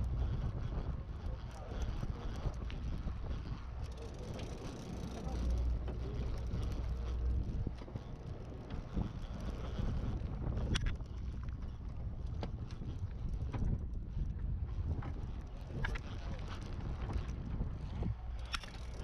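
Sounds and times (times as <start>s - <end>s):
boat engine rumble: 0.0s - 19.0s
wind on microphone: 0.0s - 19.0s.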